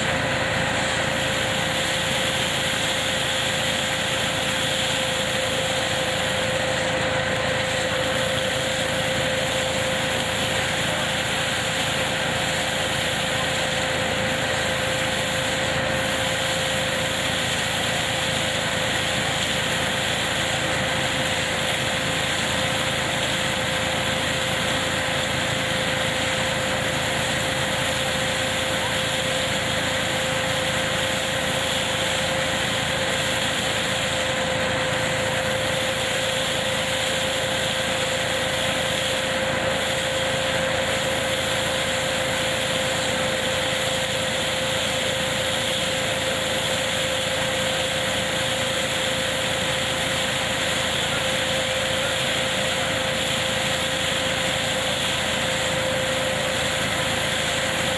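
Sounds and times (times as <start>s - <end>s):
harvesting machine running: 0.0s - 57.9s
machine whine: 0.0s - 57.9s.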